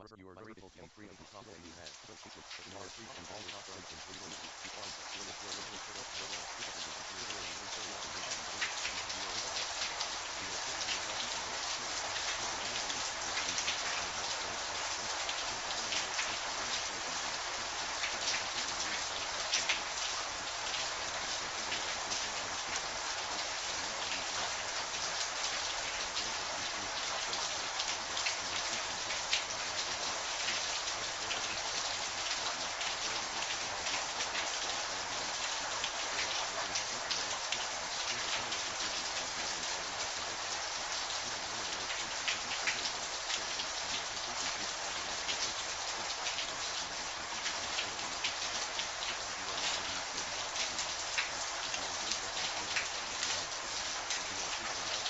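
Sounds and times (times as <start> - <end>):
steady rain hiss: 0.0 - 55.0
rain drop hits: 0.2 - 55.0.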